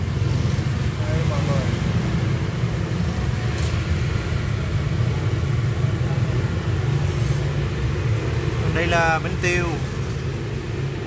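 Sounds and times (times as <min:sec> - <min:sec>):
motorbike traffic rumble: 0:00.0 - 0:11.0
street noise: 0:00.0 - 0:11.0.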